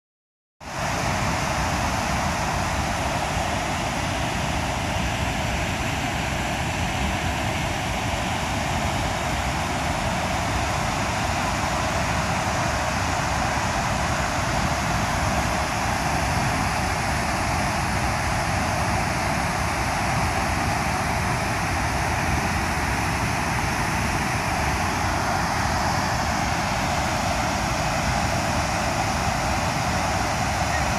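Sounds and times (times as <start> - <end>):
waterfall rushing: 0.7 - 30.9.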